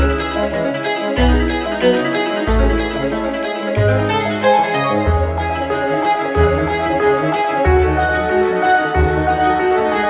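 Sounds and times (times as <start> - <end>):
plucked strings: 0.0 - 10.0.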